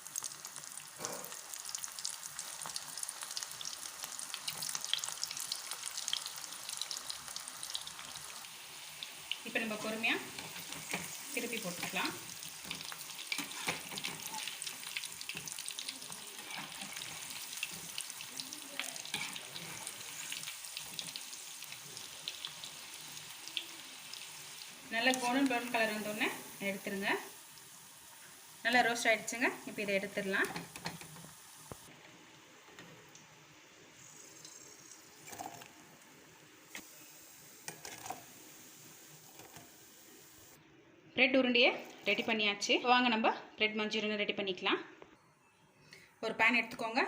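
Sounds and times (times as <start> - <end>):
food deep-frying in oil: 0.0 - 40.6.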